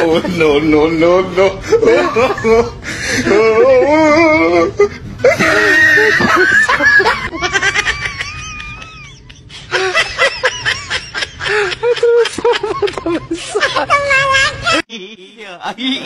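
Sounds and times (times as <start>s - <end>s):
people laughing and wailing: 0.0s - 15.1s.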